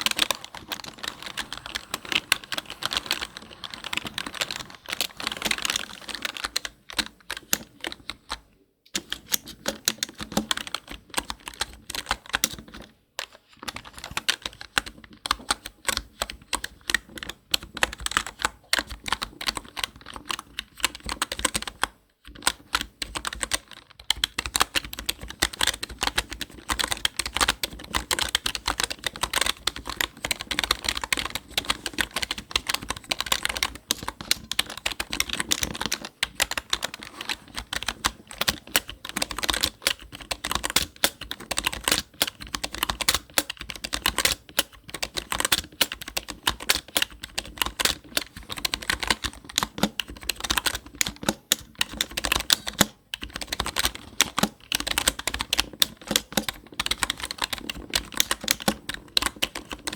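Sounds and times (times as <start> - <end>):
typing on computer keyboard: 0.0 - 59.9.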